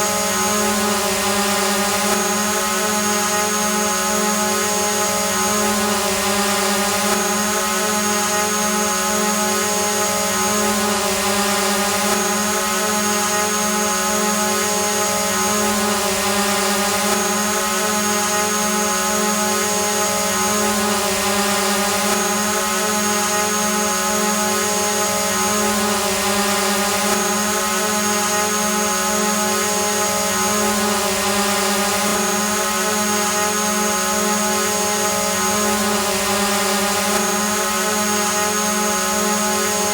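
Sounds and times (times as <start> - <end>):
drone propellers buzzing whine: 0.0 - 39.9.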